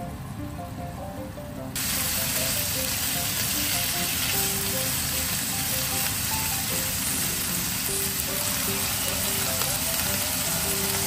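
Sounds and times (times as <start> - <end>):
soft background music: 0.0 - 11.0
meat and vegetables sizzling in pan: 1.8 - 11.0.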